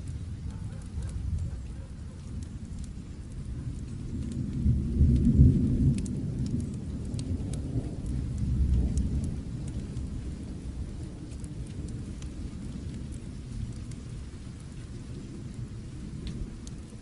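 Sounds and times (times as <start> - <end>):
distant thunder rumbling: 0.0 - 17.0
fireplace fire crackling: 0.0 - 17.0
steady rain: 0.0 - 17.0.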